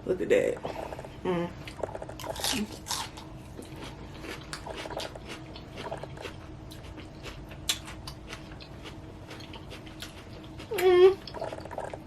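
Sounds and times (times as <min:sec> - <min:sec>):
person chewing salad: 0:00.7 - 0:12.0.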